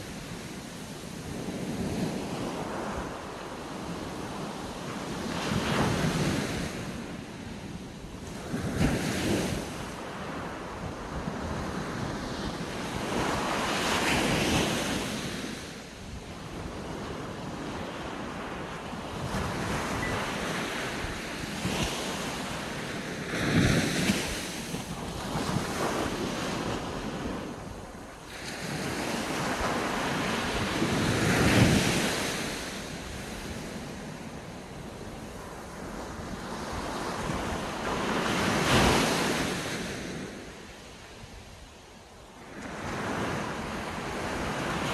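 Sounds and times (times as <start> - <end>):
small waves breaking on beach: 0.0 - 44.9
wind rumbling on microphone: 0.0 - 44.9.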